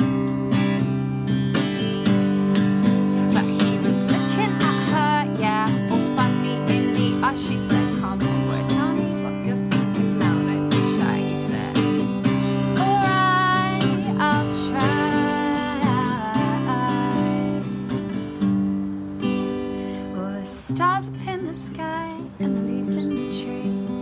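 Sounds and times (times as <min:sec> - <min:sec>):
acoustic guitar: 0:00.0 - 0:24.0
woman singing: 0:02.0 - 0:18.4, 0:19.6 - 0:24.0.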